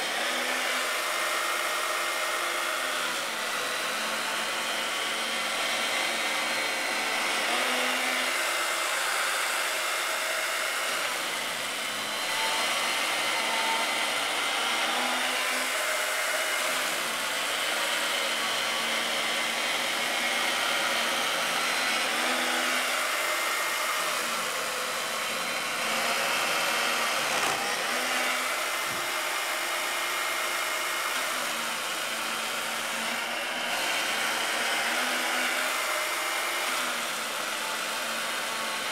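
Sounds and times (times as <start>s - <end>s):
chain morticer cutting wood: 0.0s - 38.9s.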